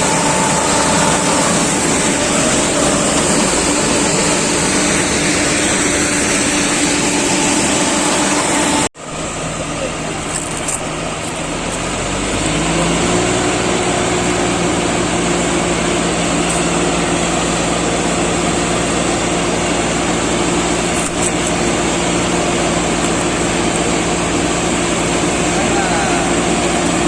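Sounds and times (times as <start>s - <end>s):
harvester engine running: 0.0s - 27.0s.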